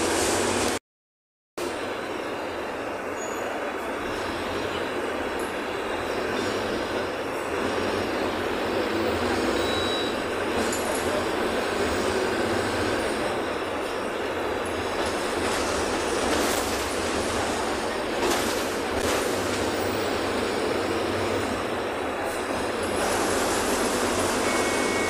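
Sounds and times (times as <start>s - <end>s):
bus engine and road noise: 0.0s - 0.8s, 1.6s - 25.0s.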